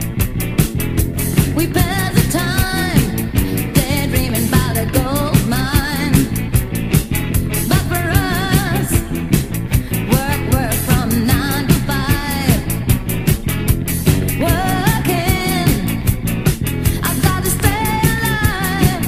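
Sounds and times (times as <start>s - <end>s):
song with sung melody and beat: 0.0s - 19.0s.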